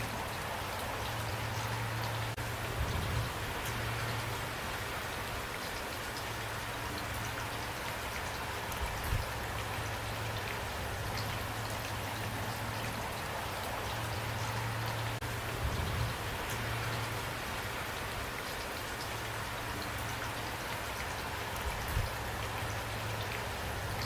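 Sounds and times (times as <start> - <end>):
rain falling: 0.0 - 24.0
raindrops pattering: 0.0 - 24.0.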